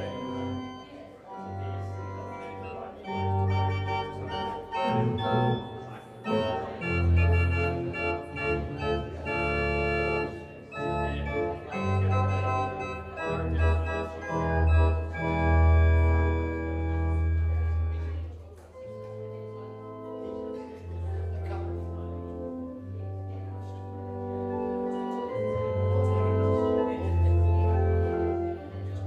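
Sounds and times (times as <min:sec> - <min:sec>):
organ playing sustained chords: 0:00.0 - 0:18.2, 0:18.8 - 0:29.0.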